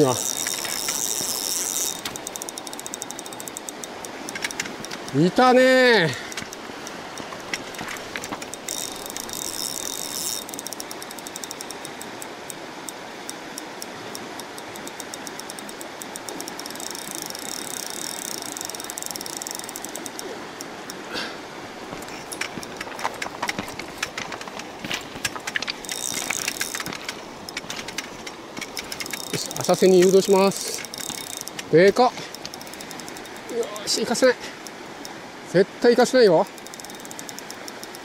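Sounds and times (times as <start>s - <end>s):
fishing reel drag buzzing: 0.0s - 5.2s, 5.9s - 21.0s, 22.0s - 35.2s, 36.0s - 38.0s
reel clicks: 0.0s - 21.0s, 21.9s - 35.2s, 35.8s - 38.0s
river rushing: 0.0s - 38.0s.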